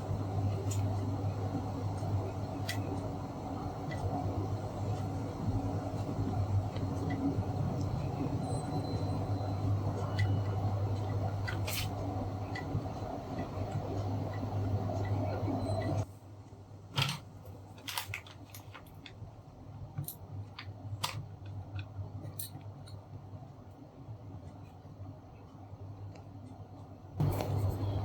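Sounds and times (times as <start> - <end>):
hum with fan-like rush: 0.0 - 28.0.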